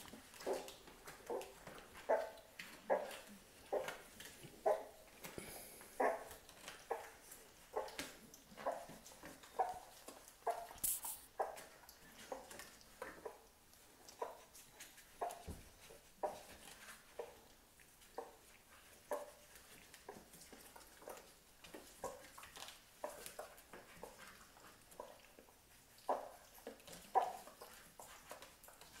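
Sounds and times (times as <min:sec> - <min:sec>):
puppies squeaking and suckling: 0:00.0 - 0:29.0.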